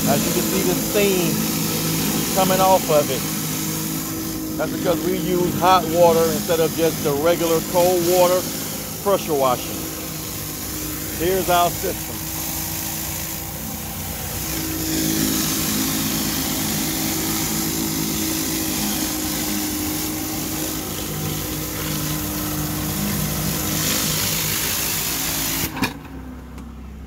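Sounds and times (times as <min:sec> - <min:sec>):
hissing water spray on concrete: 0:00.0 - 0:25.9
pressure washer engine hum: 0:00.0 - 0:27.0.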